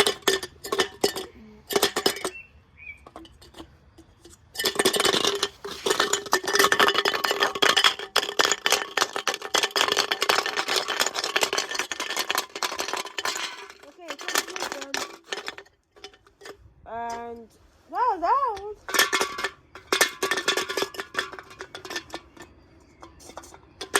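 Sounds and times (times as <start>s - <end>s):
stones rattling in washing machine drum: 0.0s - 17.3s, 18.5s - 23.9s.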